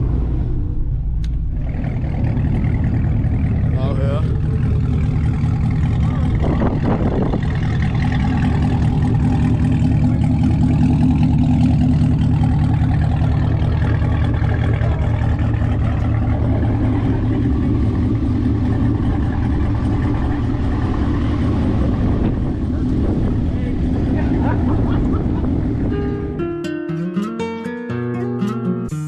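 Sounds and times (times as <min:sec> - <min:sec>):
car engine droning: 0:00.0 - 0:26.6.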